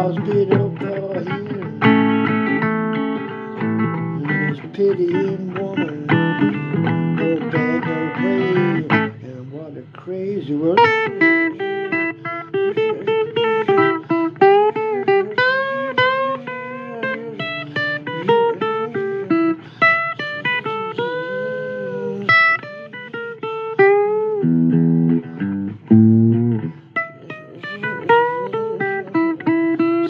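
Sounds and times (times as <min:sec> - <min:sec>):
blues guitar lead: 0:00.0 - 0:30.0.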